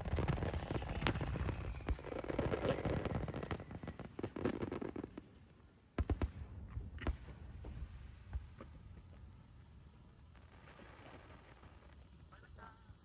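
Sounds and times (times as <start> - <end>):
fireworks crackling: 0.0 - 12.6.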